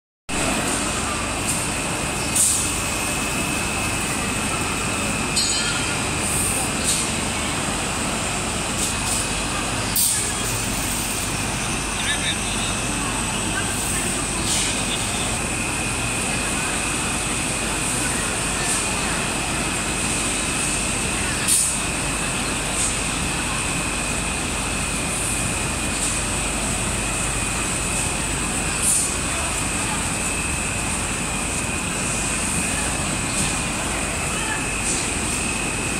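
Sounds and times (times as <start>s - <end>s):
machine running with high whine: 0.3s - 35.9s.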